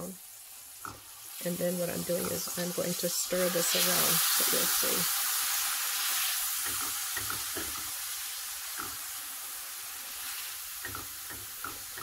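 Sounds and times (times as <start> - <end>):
garlic sizzling in a pan: 0.0 - 12.0.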